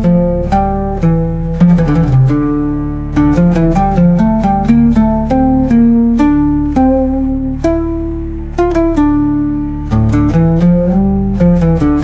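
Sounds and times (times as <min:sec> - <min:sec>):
oud plucking slow melody: 0:00.0 - 0:12.0
steady low bass tone: 0:00.0 - 0:12.0.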